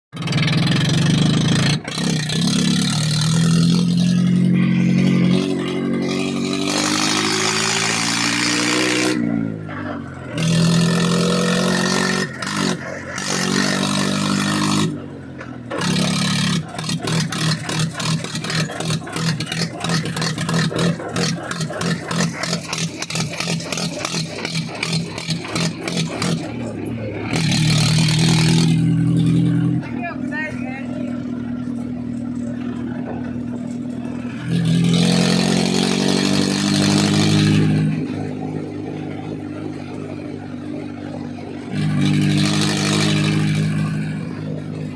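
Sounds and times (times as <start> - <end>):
tractor diesel engine revving: 0.1 - 44.9.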